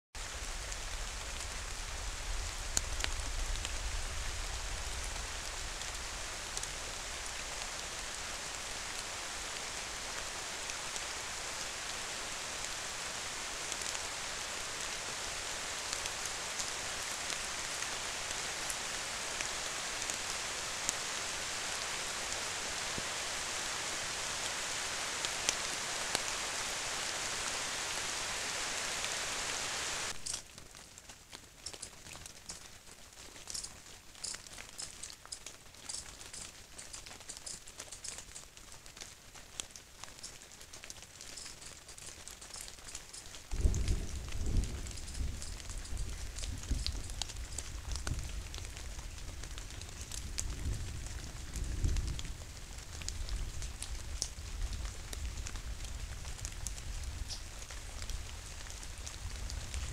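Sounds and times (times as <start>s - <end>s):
steady rain falling: 0.2s - 59.9s.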